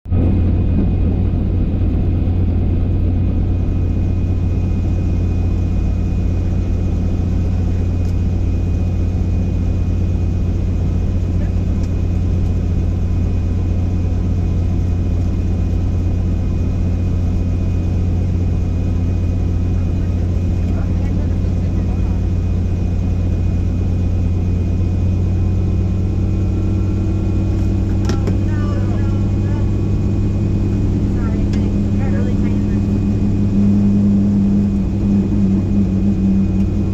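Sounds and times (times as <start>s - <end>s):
helicopter engine and rotor: 0.1s - 36.9s.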